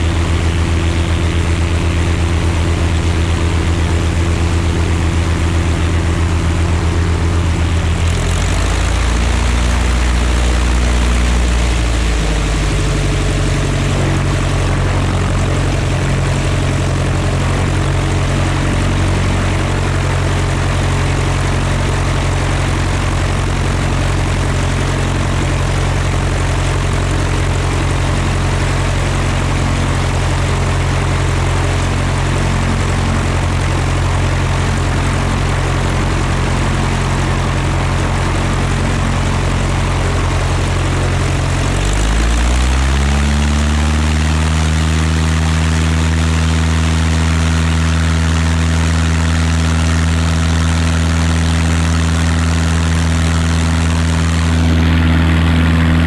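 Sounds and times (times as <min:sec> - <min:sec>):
propeller plane engine idling: 0:00.0 - 0:56.0.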